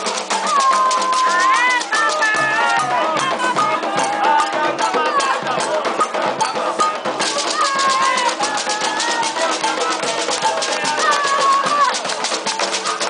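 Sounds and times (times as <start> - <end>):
hand drums: 0.0 - 13.0
people singing: 0.0 - 13.0.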